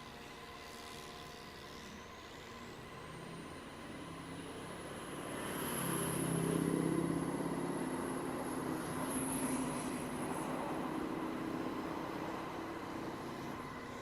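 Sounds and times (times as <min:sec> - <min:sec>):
thin high whine: 0:00.0 - 0:14.0.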